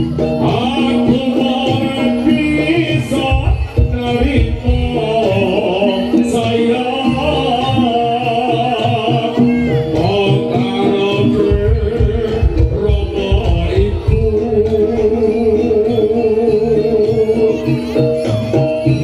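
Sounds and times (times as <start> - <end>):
hand drums beating: 0.0 - 19.0.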